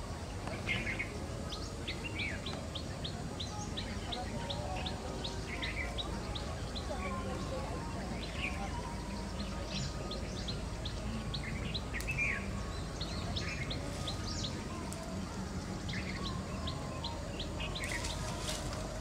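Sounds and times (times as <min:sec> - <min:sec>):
wild birds chirping and calling: 0:00.5 - 0:19.0.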